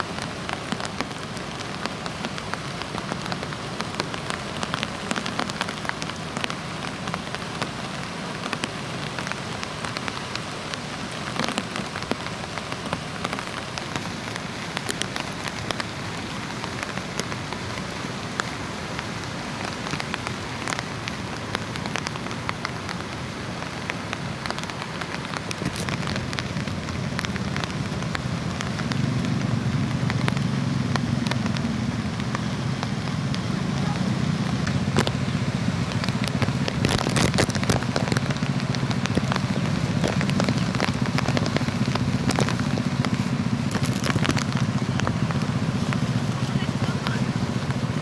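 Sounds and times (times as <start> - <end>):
waves breaking on sandy beach: 0.0 - 48.0
small sharp crackles: 8.4 - 48.0.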